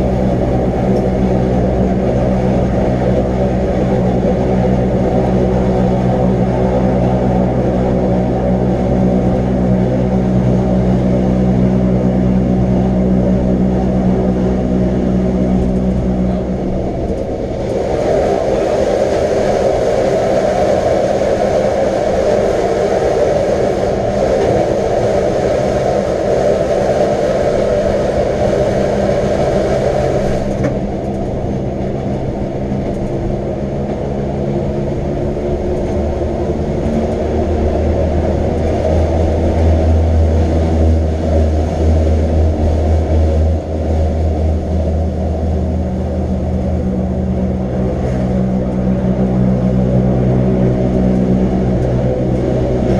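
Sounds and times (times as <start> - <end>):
electric train motor hum: 0.0 - 52.9
train running noise: 0.0 - 52.9.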